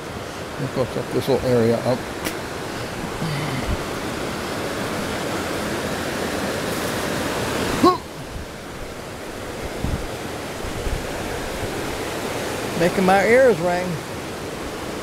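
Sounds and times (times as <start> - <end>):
whitewater rushing over boulders: 0.0 - 15.0.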